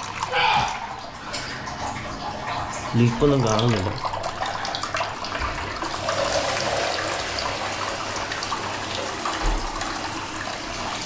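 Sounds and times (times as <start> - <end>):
water refilling toilet cistern: 0.0 - 11.0.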